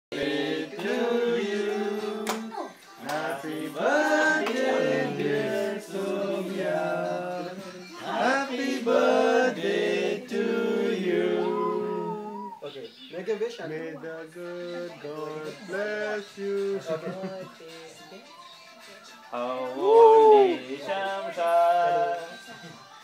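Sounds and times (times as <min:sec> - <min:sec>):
group singing birthday song: 0:00.1 - 0:12.6, 0:13.7 - 0:23.0.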